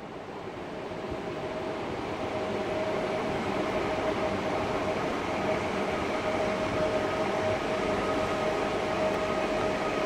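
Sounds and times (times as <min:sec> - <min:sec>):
electric train rolling with whine: 0:00.0 - 0:10.0.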